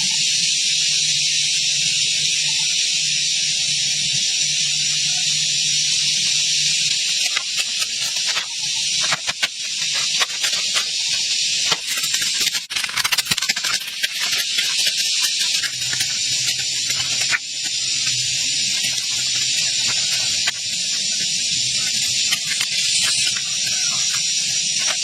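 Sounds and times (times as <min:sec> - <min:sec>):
high-pitched hiss: 0:00.0 - 0:25.0.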